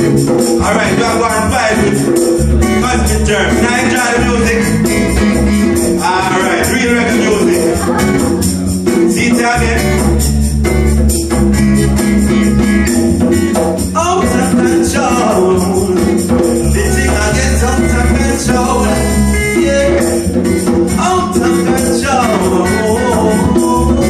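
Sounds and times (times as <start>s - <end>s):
hand percussion: 0.0s - 24.0s
reggae song with beat and bass: 0.0s - 24.0s
person singing: 0.2s - 5.2s, 6.0s - 10.3s, 13.9s - 24.0s.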